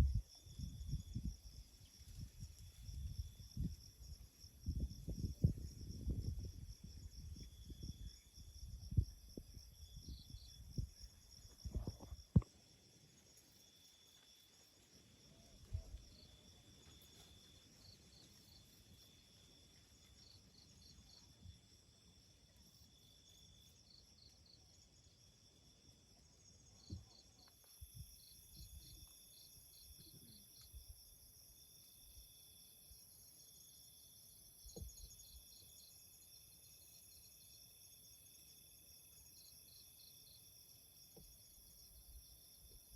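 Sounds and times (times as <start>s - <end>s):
insects trilling and chirping: 0.0s - 42.9s.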